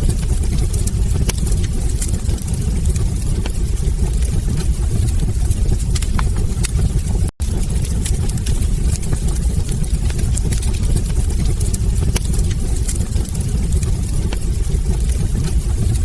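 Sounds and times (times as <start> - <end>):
fire crackling pops and snaps: 0.0 - 16.0
fire low roar: 0.0 - 16.0.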